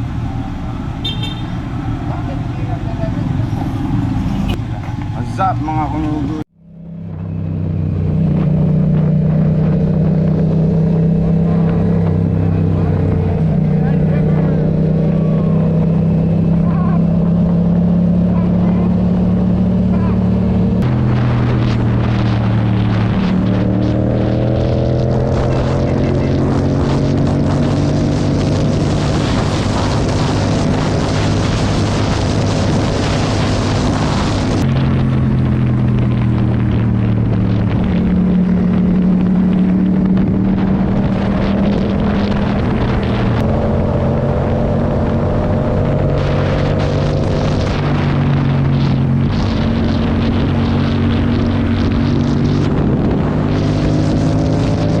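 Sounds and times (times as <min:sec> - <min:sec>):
wind rushing: 0:00.0 - 0:55.0
motorcycle engine running: 0:06.5 - 0:55.0.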